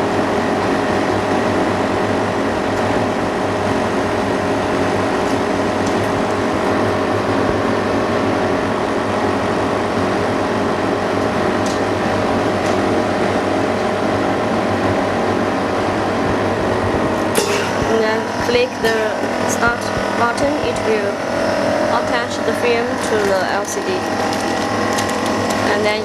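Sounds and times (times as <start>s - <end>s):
fan and filter unit humming: 0.0s - 26.0s.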